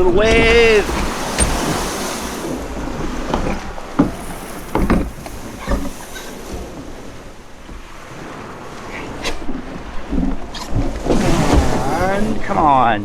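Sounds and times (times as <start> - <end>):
dinghy knocks and splashes: 0.0 - 12.2
small waves washing on beach: 0.0 - 13.0.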